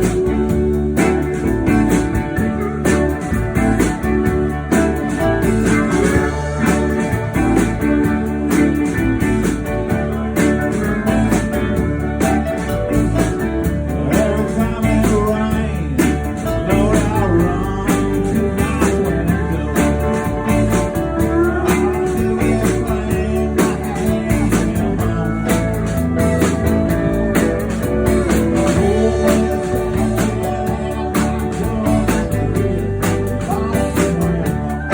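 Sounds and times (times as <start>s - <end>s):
guitar: 0.0s - 34.9s
live band playing: 0.0s - 34.9s.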